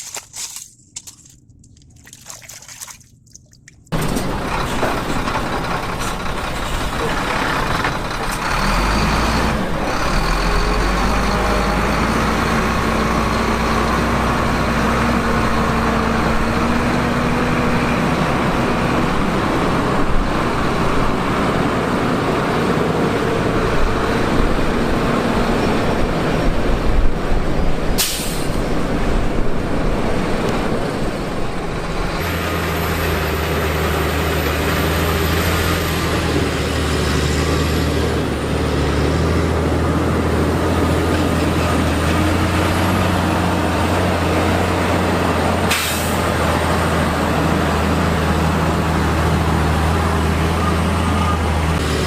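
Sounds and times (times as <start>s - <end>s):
heavy truck engine running: 3.9s - 52.0s.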